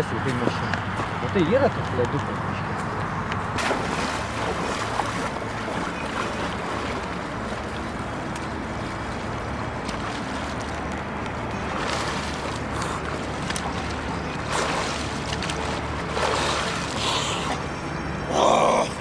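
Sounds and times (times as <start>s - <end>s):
low steady hum: 2.6s - 19.0s
water lapping: 3.5s - 19.0s.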